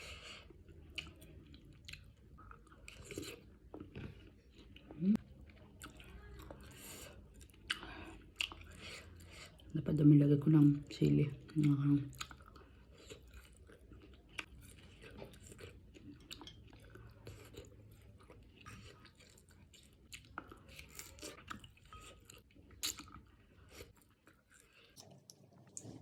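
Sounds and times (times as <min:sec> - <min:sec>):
person chewing: 0:00.0 - 0:09.7, 0:11.4 - 0:26.0.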